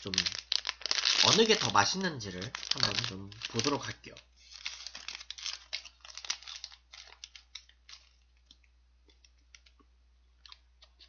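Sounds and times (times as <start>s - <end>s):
plastic wrapper crackling: 0.0s - 9.8s.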